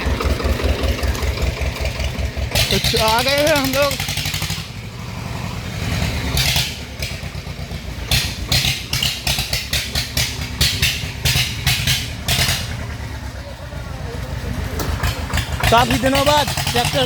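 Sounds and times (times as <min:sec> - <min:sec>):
sharp rattles and clatters: 0:00.0 - 0:04.9, 0:05.9 - 0:13.4, 0:14.2 - 0:17.0
tractor diesel engine running: 0:00.0 - 0:17.0.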